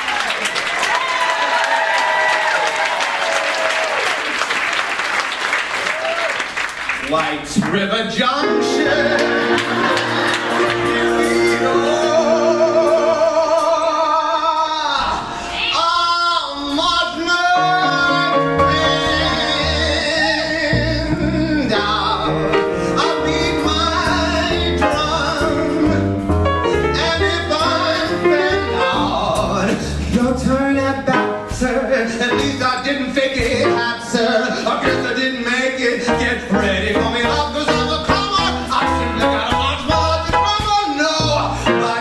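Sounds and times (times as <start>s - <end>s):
man singing with vibrato: 7.7s - 42.0s
live band music: 8.2s - 42.0s.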